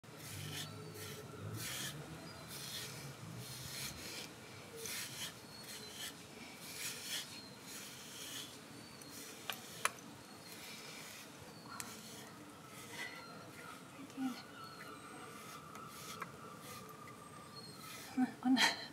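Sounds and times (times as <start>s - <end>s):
brush raking through dog fur: 0.2s - 17.0s, 17.7s - 18.2s.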